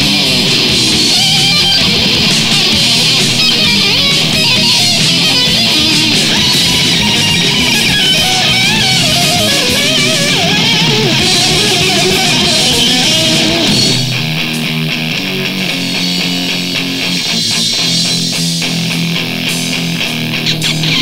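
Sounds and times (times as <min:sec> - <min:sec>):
metal electric guitar: 0:00.0 - 0:21.0.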